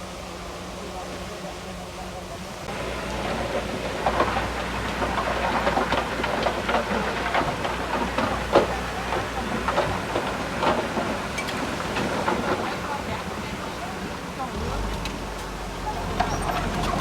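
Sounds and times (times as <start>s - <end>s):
bulldozer diesel engine hum: 0.0s - 17.0s
metallic clanking of tracks: 2.7s - 17.0s.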